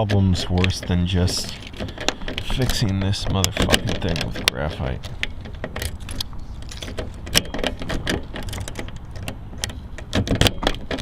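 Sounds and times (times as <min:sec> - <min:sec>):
key clicking and rattling in lock: 0:00.0 - 0:11.0.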